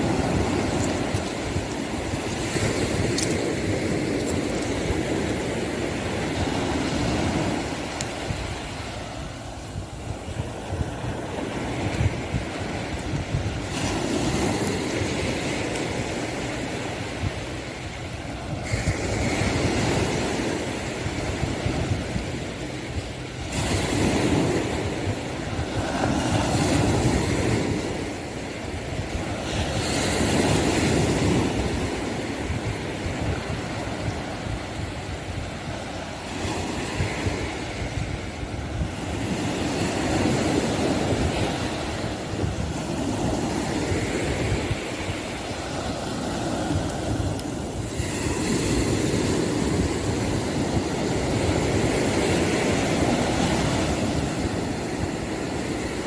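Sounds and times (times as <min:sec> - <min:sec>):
ocean surf breaking: 0:00.0 - 0:56.0
wind rumbling on microphone: 0:00.0 - 0:56.0.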